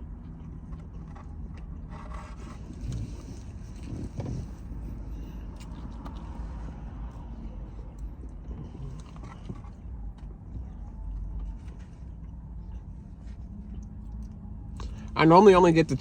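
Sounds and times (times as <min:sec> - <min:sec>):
person chewing food: 0:00.0 - 0:15.2
low steady rumble: 0:00.0 - 0:16.0.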